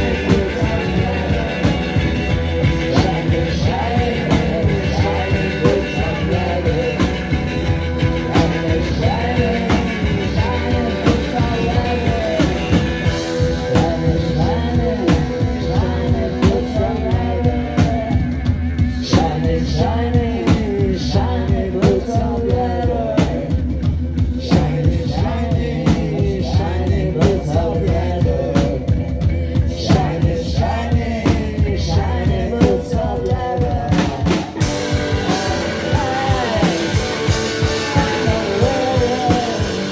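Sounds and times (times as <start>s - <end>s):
person singing: 0.0s - 18.4s, 19.0s - 39.9s
rock band playing live: 0.0s - 39.9s.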